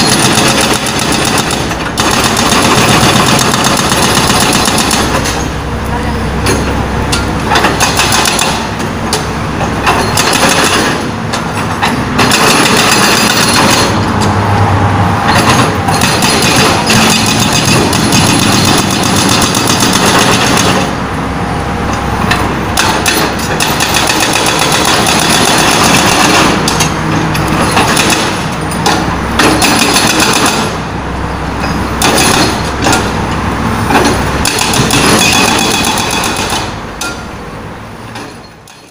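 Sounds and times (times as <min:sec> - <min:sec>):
hydraulic breaker hammering asphalt: 0:00.0 - 0:05.5, 0:06.4 - 0:14.2, 0:15.3 - 0:21.0, 0:22.3 - 0:30.9, 0:31.6 - 0:33.2, 0:33.9 - 0:37.3
excavator engine running: 0:00.0 - 0:38.9.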